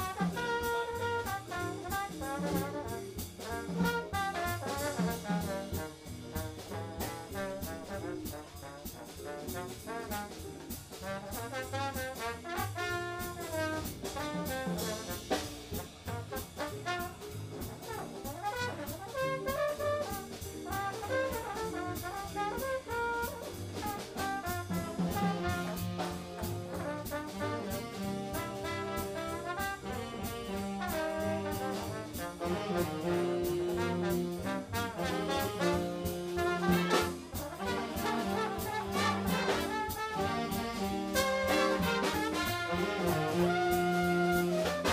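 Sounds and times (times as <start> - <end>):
big band jazz: 0.0 - 44.9
drums keeping beat: 0.0 - 44.9.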